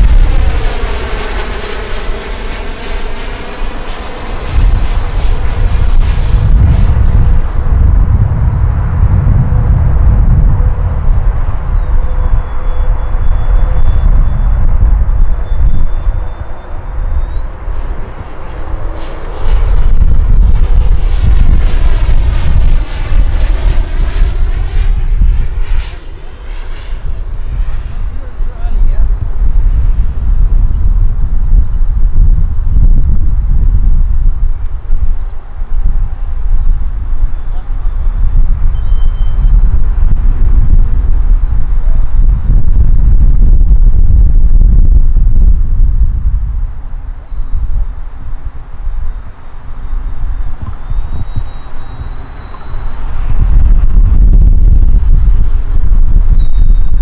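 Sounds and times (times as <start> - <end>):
electric fans high whine: 0.0 - 57.0
wind rumble on microphone: 0.0 - 57.0.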